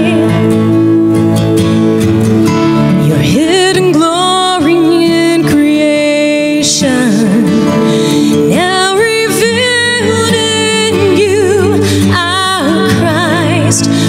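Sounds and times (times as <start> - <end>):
woman singing into microphone: 0.0 - 1.4, 2.9 - 14.0.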